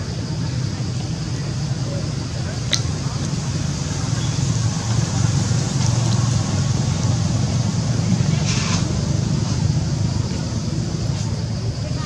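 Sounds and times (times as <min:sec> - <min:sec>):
low rumble with hiss: 0:00.0 - 0:12.0.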